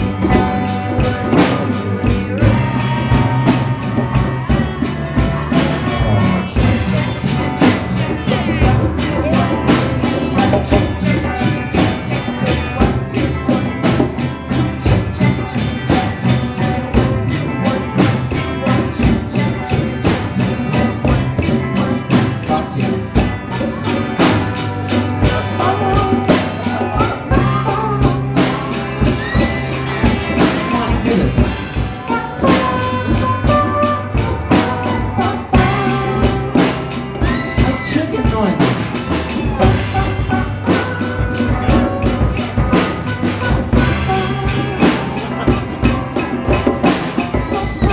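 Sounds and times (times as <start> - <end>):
drum kit beat: 0.0 - 47.9
electric bass and guitar: 0.0 - 47.9
hand drums: 0.0 - 47.9
voices singing: 0.0 - 47.9.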